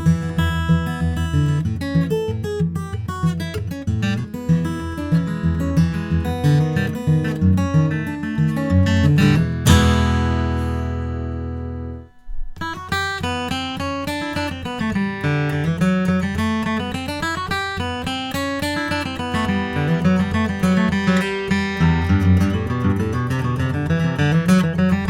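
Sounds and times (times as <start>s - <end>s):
acoustic guitar playing: 0.0s - 25.0s.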